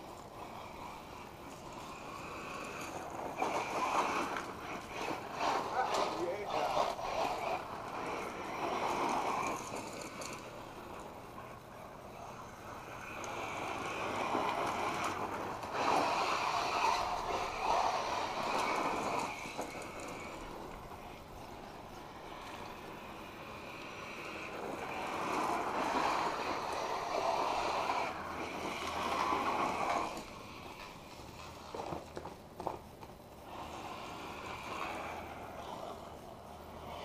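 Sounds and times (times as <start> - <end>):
rc car motor on gravel: 0.0 - 37.0.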